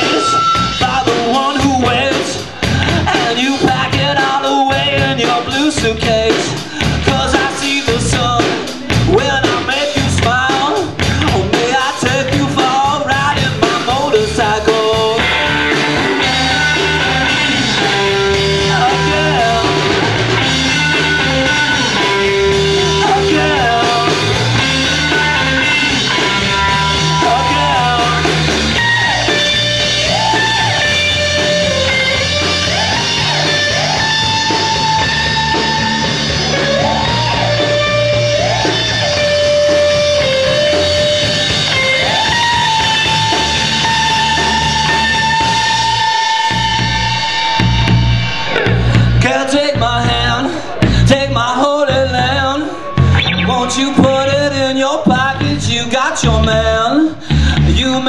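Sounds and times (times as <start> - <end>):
person singing: 0.0 - 58.0
rock band playing live: 0.0 - 58.0.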